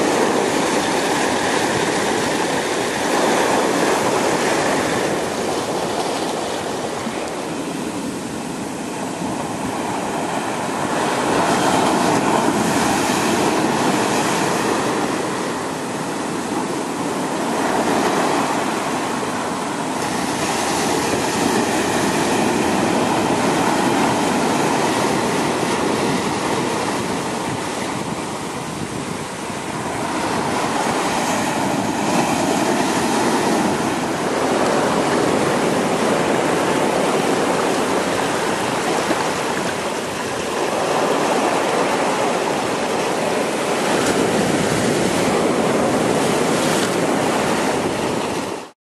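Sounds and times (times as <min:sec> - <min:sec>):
sea surf breaking over rocks: 0:00.0 - 0:48.7.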